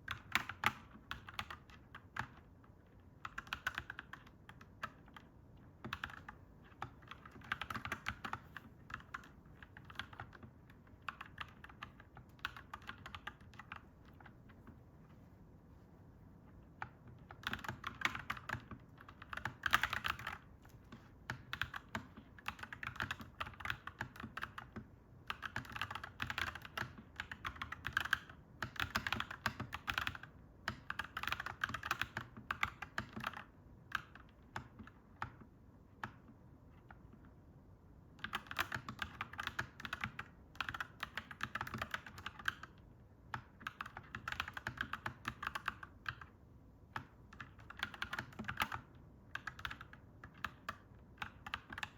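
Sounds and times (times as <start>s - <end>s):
mechanical keyboard typing: 0.0s - 14.6s, 16.7s - 37.4s, 38.1s - 51.9s.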